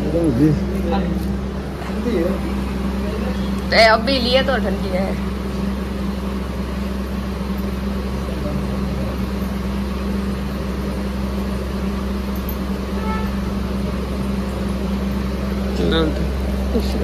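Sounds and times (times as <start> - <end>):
motor humming steadily: 0.0 - 17.0.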